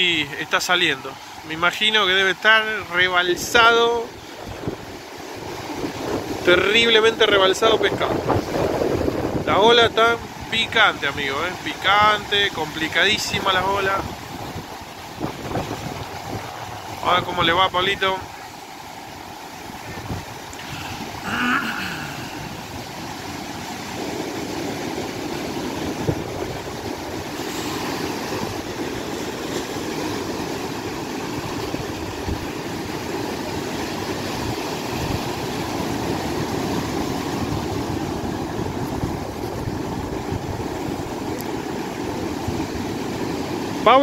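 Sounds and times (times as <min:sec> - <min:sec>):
ocean surf breaking on beach: 0:00.0 - 0:44.0.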